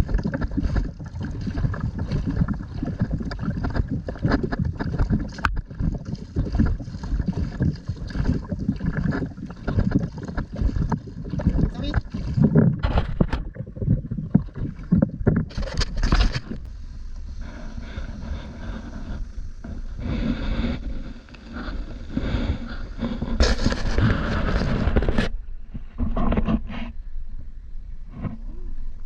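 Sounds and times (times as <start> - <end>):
water noise from kayak: 0.0 - 27.0.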